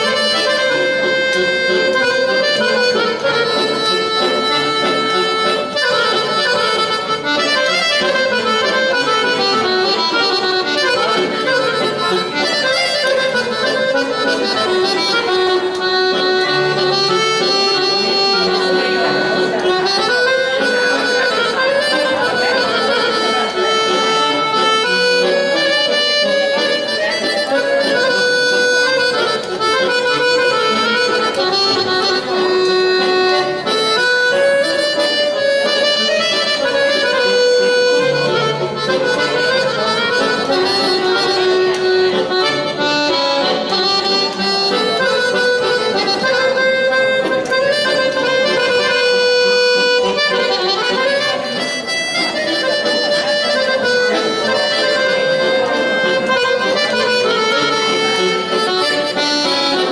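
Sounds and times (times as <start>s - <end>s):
accordion melody: 0.0s - 59.9s.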